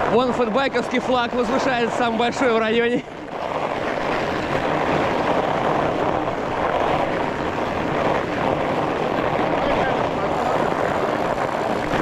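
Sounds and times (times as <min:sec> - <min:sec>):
bike tyres rolling over snow: 0:00.0 - 0:12.0
wind buffeting microphone: 0:00.0 - 0:12.0.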